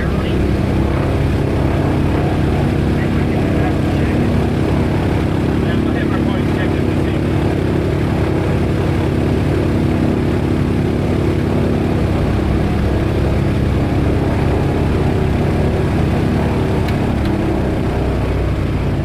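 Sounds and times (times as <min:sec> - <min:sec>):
aircraft radial engines droning: 0:00.0 - 0:19.0.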